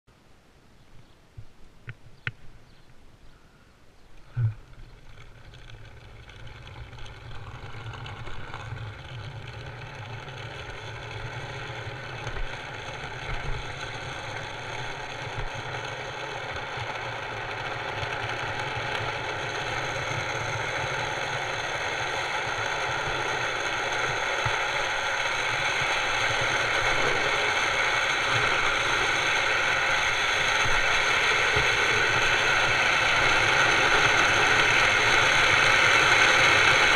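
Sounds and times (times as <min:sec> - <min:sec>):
cart wheels rolling on asphalt: 0:04.2 - 0:36.9.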